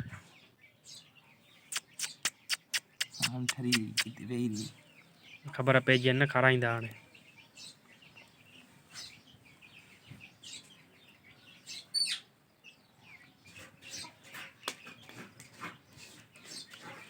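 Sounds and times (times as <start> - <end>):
parrot chicks chirping and squeaking: 0.0 - 17.0.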